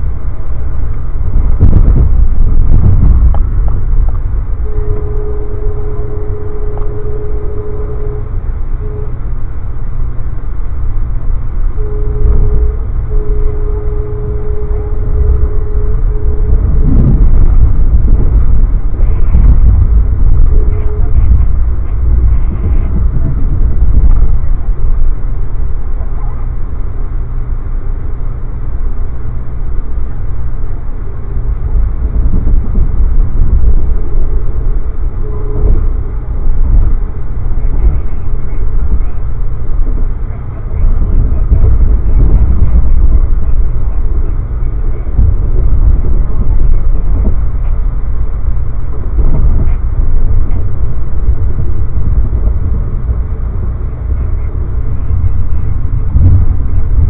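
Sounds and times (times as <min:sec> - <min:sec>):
steady mid-pitched tone: 0:00.0 - 0:57.0
train rumble from inside coach: 0:00.0 - 0:57.0.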